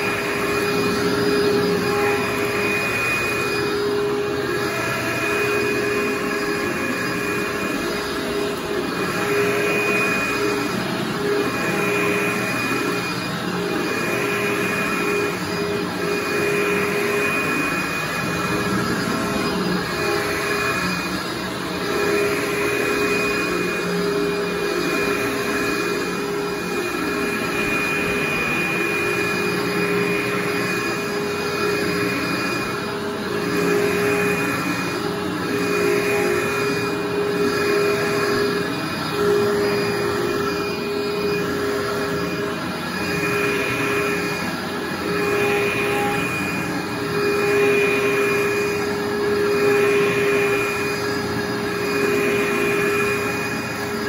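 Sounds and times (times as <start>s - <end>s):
vacuum cleaner motor whine: 0.0s - 54.0s.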